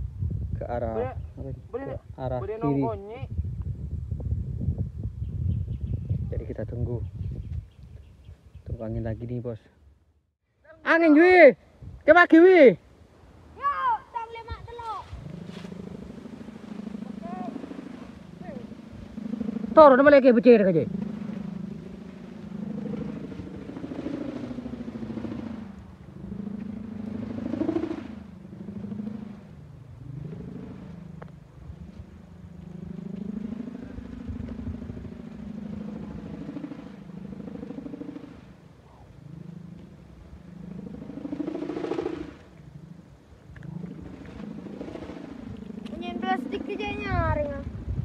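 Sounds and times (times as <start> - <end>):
kite hummer droning in wind: 0.0 - 9.4, 10.7 - 48.0.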